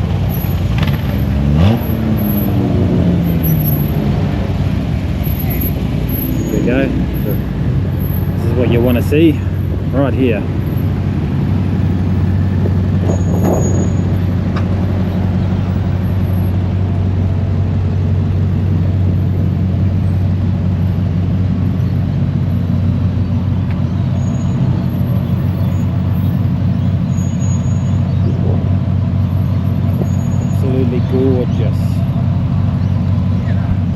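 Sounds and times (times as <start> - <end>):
car engine drone: 0.0 - 33.9
road noise: 0.0 - 33.9.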